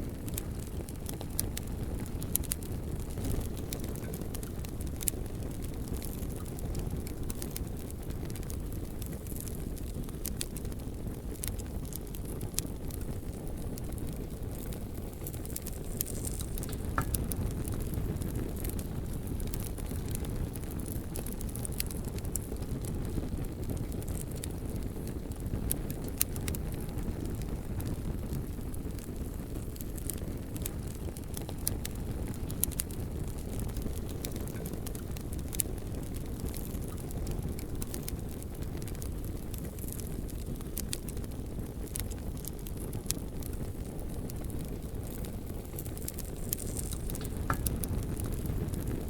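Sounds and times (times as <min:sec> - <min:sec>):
bonfire flames rumbling: 0:00.0 - 0:49.0
logs crackling and popping: 0:00.0 - 0:49.0.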